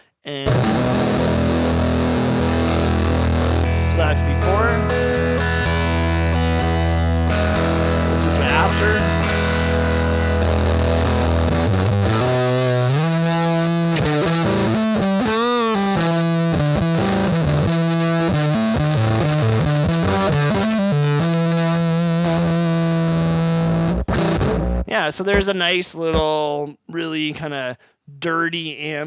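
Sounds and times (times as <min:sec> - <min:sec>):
distorted electric guitar: 0:00.0 - 0:26.4.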